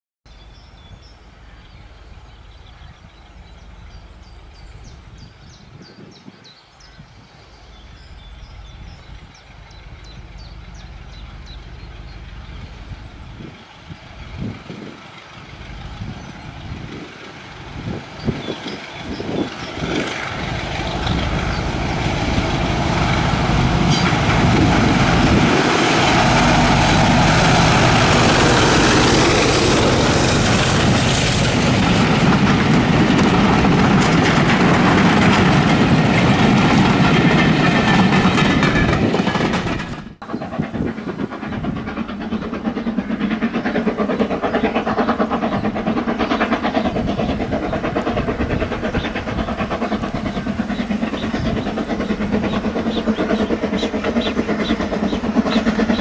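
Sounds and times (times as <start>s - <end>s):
train passing close by: 0.3s - 56.0s.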